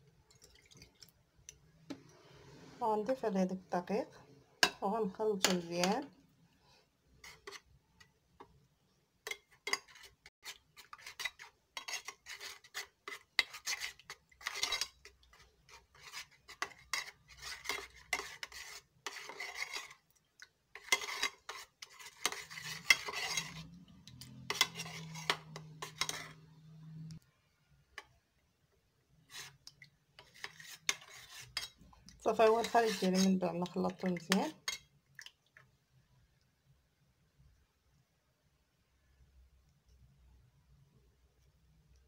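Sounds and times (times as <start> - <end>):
metal spoon stirring in saucepan: 0.0 - 27.3, 27.9 - 28.3, 29.0 - 35.7.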